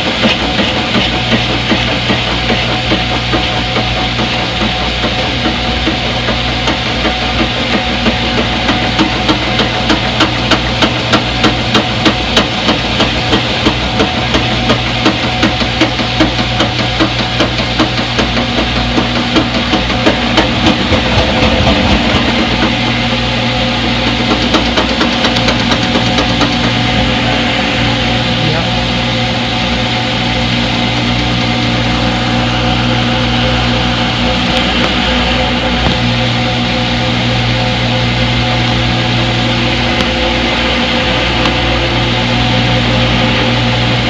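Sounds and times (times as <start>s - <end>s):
washing machine knocking: 0.0s - 44.0s
washing machine motor hum: 0.0s - 44.0s.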